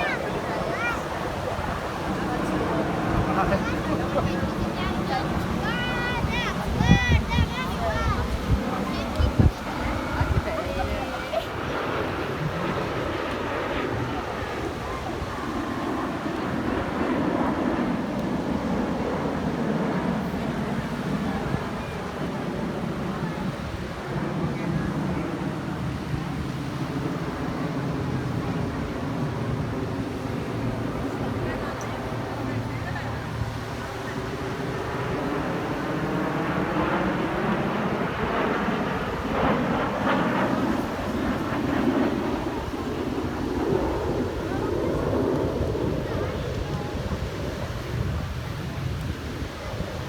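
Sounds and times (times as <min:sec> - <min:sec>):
aircraft engine roar: 0:00.0 - 0:50.0
surf-like wash: 0:00.0 - 0:50.0
wind on microphone: 0:00.0 - 0:50.0.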